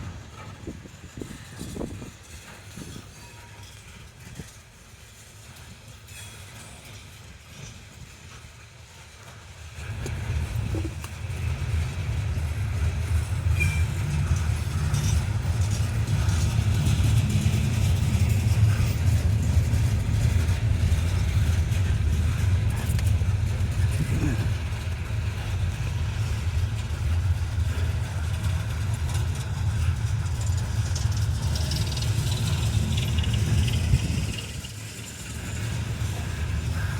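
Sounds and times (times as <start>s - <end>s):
train rumbling past: 0.0s - 36.9s.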